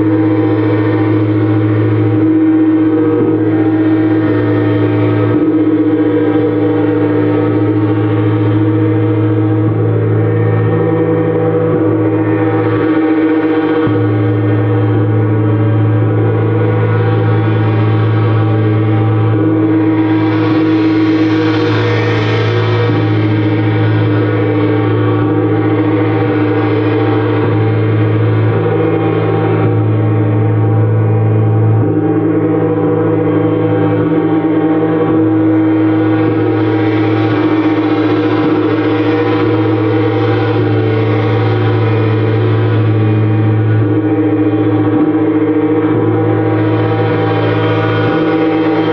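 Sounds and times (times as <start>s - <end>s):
gong ringing: 0.0s - 48.9s.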